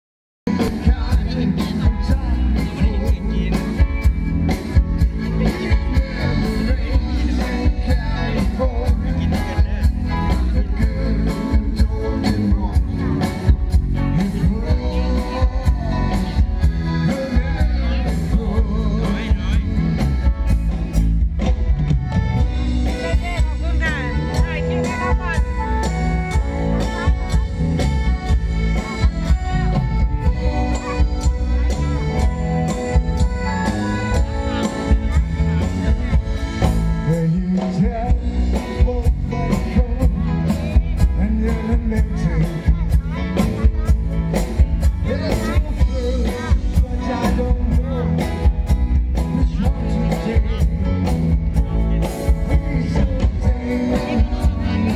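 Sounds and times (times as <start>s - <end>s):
man singing: 0.5s - 21.0s, 22.8s - 54.9s
rock band over loudspeakers: 0.5s - 54.9s.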